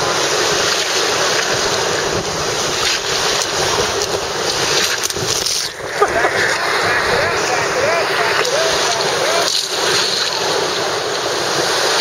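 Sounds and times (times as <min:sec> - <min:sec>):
whitewater rushing and splashing: 0:00.0 - 0:12.0.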